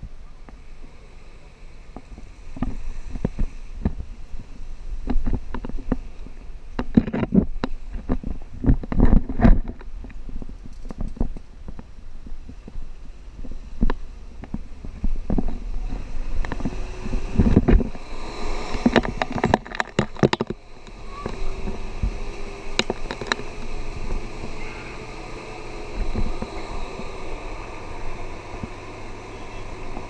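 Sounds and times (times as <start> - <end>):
faint whine: 0.0 - 30.0
suv engine rumbling: 0.0 - 30.0.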